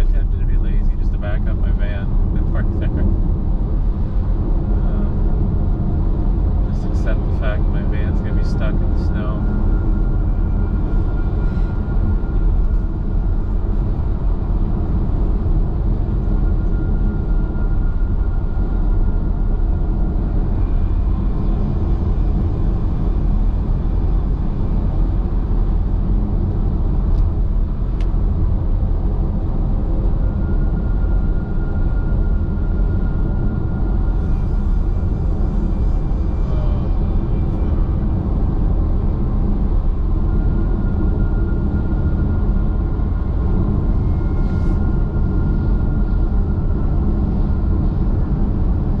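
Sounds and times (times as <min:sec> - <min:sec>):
road and tyre rumble: 0:00.0 - 0:49.0
faint high whine: 0:04.6 - 0:28.1, 0:29.3 - 0:49.0.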